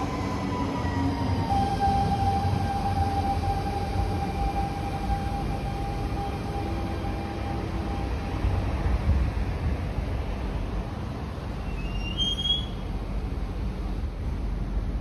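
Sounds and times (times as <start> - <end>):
train inverter whine: 0.0 - 15.0
wheels rumbling on track: 0.0 - 15.0.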